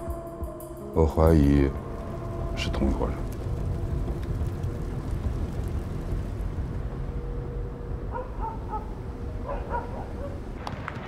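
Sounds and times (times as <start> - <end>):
low ambient rumble: 0.8 - 11.0.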